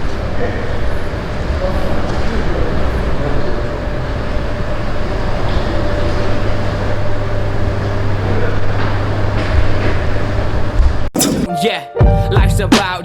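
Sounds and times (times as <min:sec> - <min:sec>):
faint steady hum: 0:00.0 - 0:11.1.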